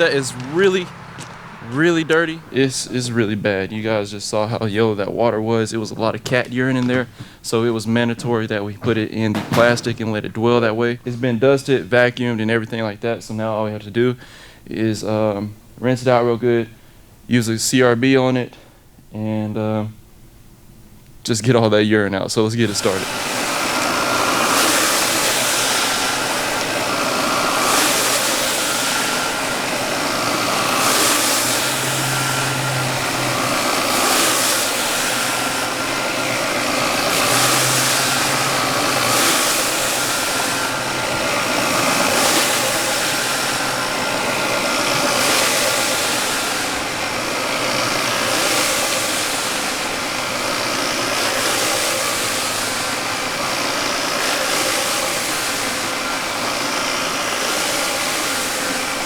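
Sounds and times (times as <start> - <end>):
water spray hissing: 0.0 - 12.1, 22.5 - 59.0
cleaning machine motor hum: 0.0 - 15.3, 22.4 - 59.0.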